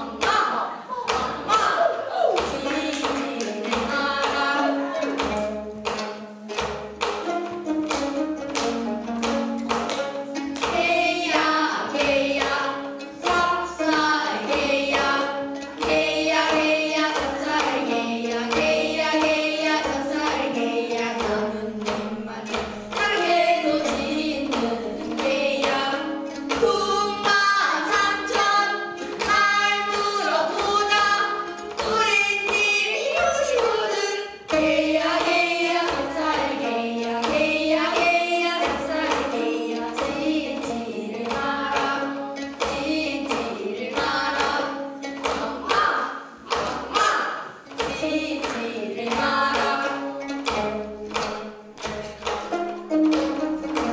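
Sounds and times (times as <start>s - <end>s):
girls singing together: 0.0s - 6.8s, 10.3s - 52.5s
plucked zither: 2.3s - 53.9s.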